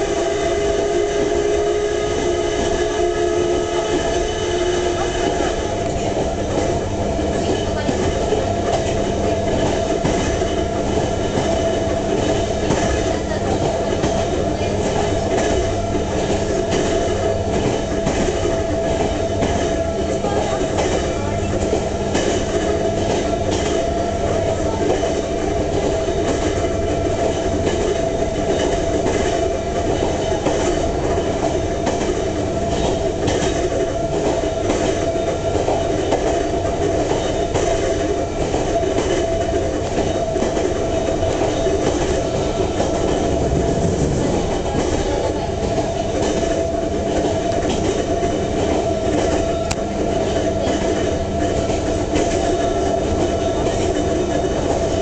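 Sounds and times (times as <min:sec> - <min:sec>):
wheels rumbling on rails: 0:00.0 - 0:55.0
wheels clacking over rail joints: 0:02.4 - 0:55.0.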